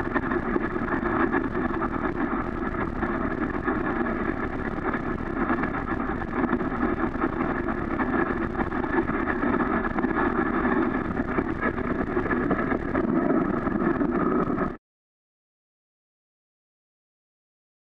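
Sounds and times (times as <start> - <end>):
wind buffeting camera: 0.0 - 14.8.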